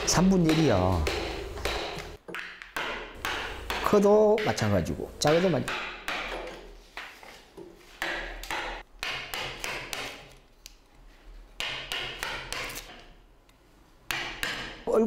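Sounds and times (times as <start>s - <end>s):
hammer striking chisel on wood: 0.0s - 10.4s, 11.6s - 13.1s, 14.1s - 14.9s.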